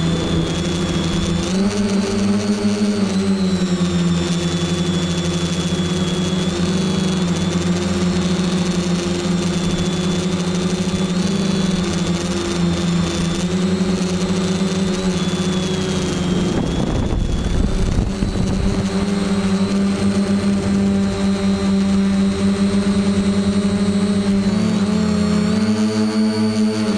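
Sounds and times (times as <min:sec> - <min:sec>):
drone motors humming and whining: 0:00.0 - 0:26.9.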